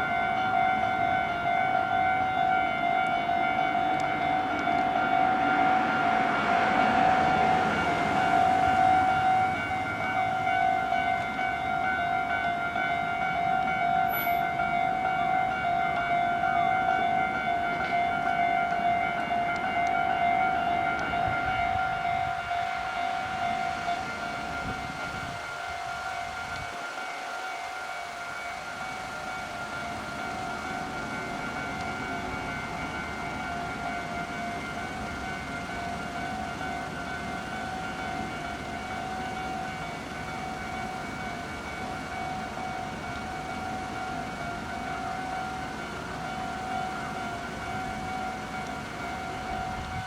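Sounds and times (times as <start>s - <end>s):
level crossing warning bell: 0.0s - 50.0s.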